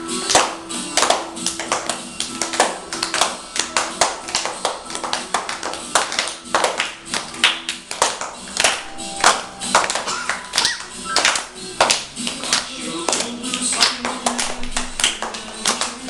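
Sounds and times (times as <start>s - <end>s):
hands clapping: 0.0s - 16.0s
song playing in background: 0.0s - 16.0s.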